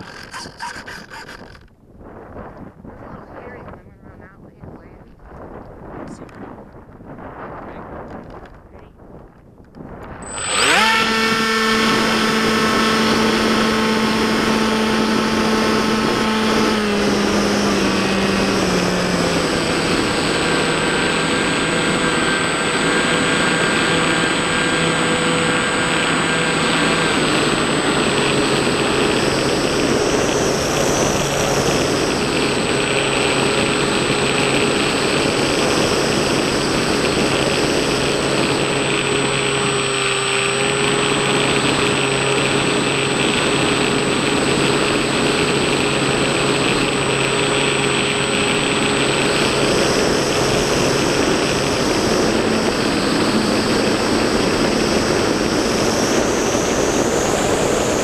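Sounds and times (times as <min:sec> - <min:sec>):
electric motor drone: 0:00.0 - 0:06.5, 0:09.8 - 0:58.0
propeller high whine: 0:00.0 - 0:58.0
rushing wind: 0:00.0 - 0:58.0.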